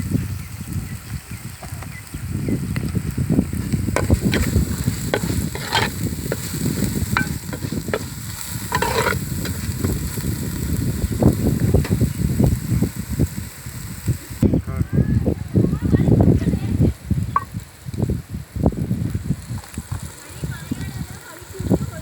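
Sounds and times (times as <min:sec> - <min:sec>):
chicken frying in a pot: 0:00.0 - 0:14.4, 0:15.8 - 0:22.0.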